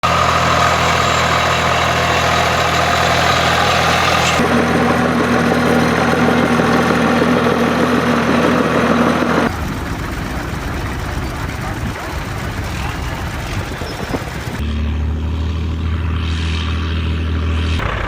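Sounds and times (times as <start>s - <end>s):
tractor diesel engines running: 0.0s - 18.0s.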